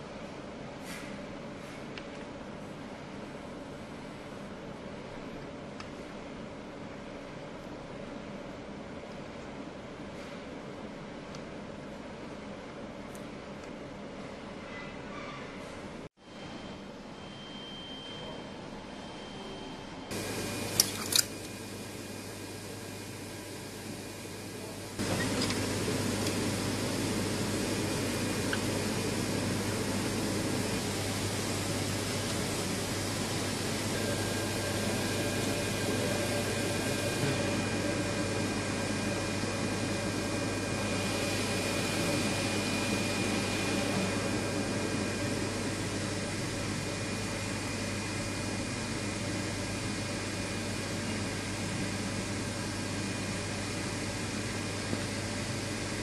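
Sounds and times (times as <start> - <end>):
fan-like hiss and hum: 0.0 - 56.0.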